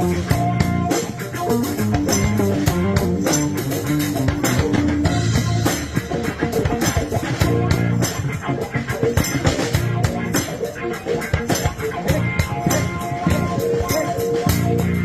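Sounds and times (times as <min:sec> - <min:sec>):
drum kit: 0:00.0 - 0:15.0
slap bass: 0:00.0 - 0:15.0.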